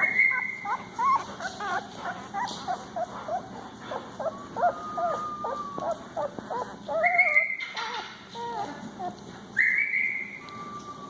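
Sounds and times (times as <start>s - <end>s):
puppies whimpering and squeaking: 0.0s - 11.0s.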